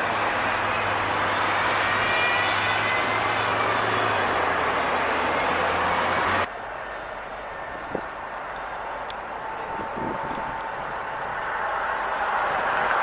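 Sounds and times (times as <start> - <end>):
traffic rushing: 0.0 - 13.0.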